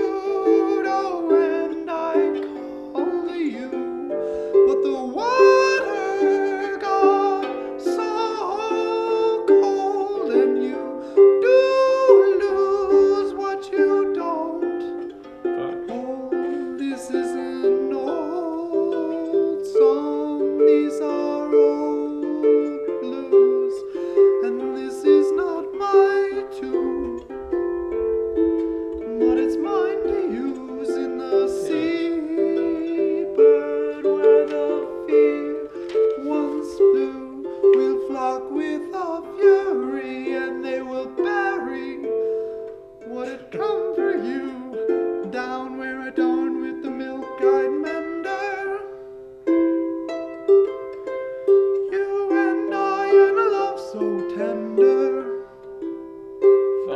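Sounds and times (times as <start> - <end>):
plucked string instrument: 0.0 - 56.9.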